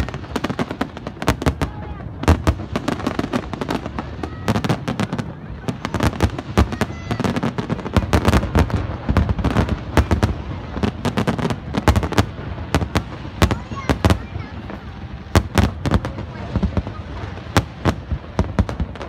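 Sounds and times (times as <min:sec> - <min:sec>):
fireworks bursting and crackling: 0:00.0 - 0:19.0.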